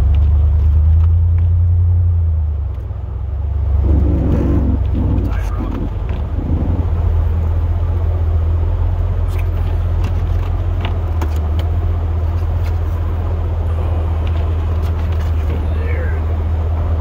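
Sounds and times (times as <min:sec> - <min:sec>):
truck engine rumble from inside cab: 0:00.0 - 0:17.0.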